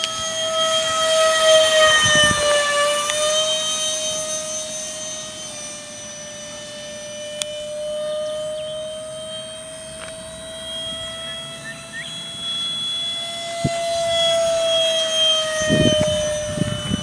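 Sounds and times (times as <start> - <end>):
electric ducted fan whine: 0.0 - 17.0.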